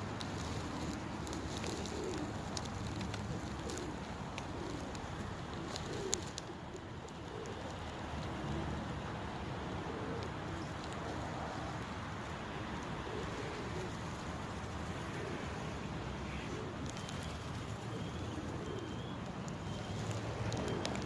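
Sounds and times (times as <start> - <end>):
pigeons cooing: 0.0 - 21.0
steady background noise: 0.0 - 21.0.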